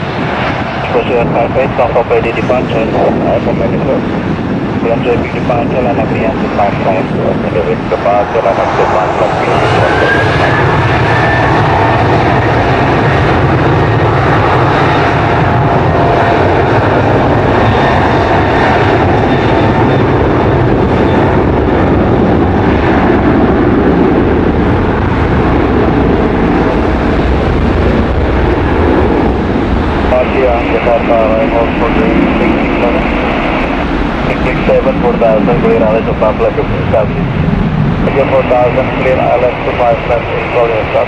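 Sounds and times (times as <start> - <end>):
jet engines roaring with whine: 0.0 - 41.0.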